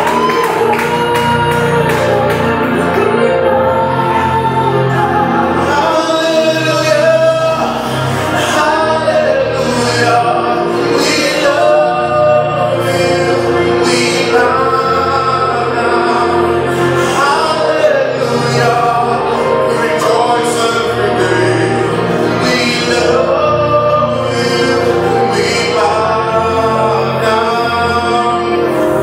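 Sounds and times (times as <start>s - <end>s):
instrumental backing with bass: 0.0s - 29.0s
voices singing gospel: 0.0s - 29.0s.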